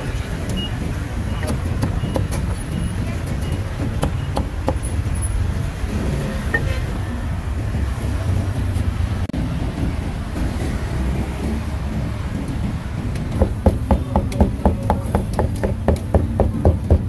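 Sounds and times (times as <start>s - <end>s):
motorbike engines running: 0.0s - 17.0s
street traffic rumble: 0.0s - 17.0s.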